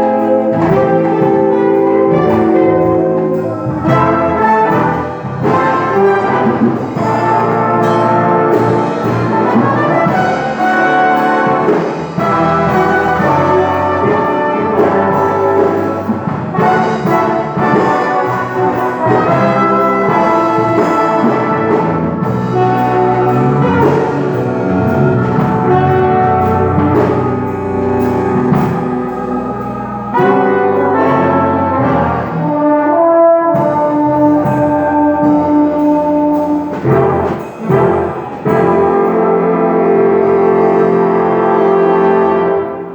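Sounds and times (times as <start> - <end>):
big band playing: 0.0 - 42.9.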